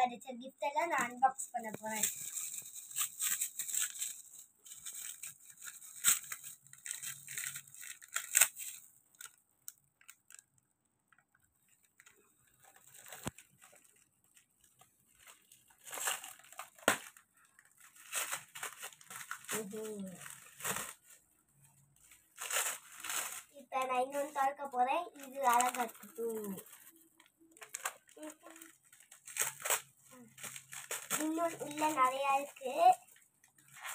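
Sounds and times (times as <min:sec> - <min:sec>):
plastic and paper crinkling: 0:00.0 - 0:33.9.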